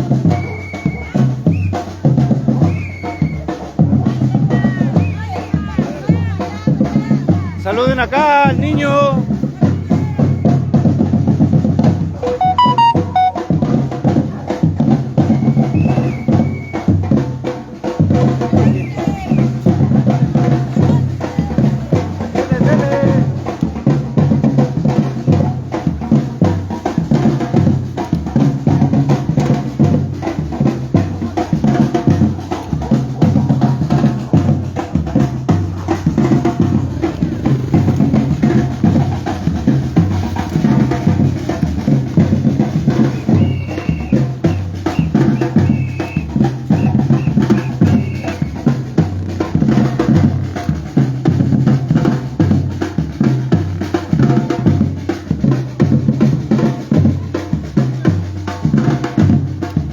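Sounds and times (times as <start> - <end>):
bass drums: 0.0 - 59.9
snare drum rhythm: 0.0 - 59.9.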